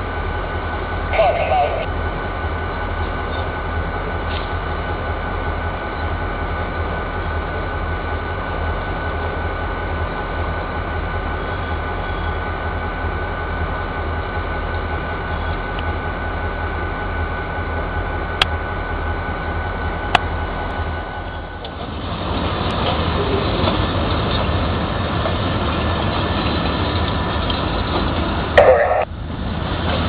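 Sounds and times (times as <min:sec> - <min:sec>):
diesel locomotive rumble and whine: 0:00.0 - 0:30.0.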